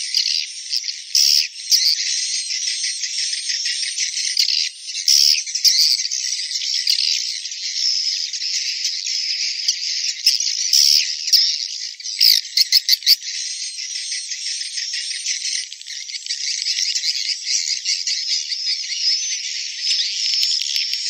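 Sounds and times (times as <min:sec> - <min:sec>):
sharp bird chirps: 0:00.0 - 0:21.0.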